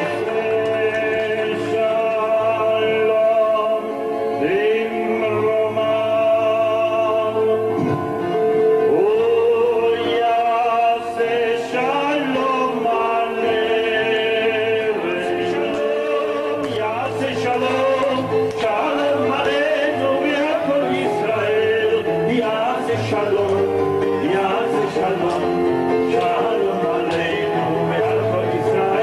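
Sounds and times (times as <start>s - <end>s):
electronic keyboard accompaniment: 0.0s - 29.0s
man singing with vibrato: 0.0s - 29.0s.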